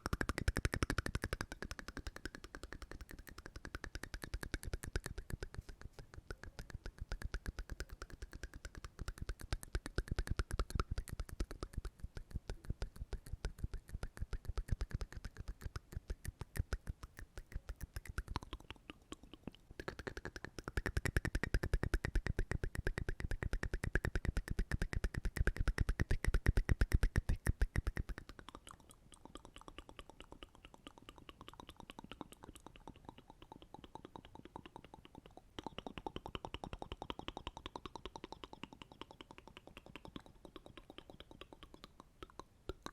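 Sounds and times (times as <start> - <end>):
wet mouth clicks and pops: 0.0 - 42.9.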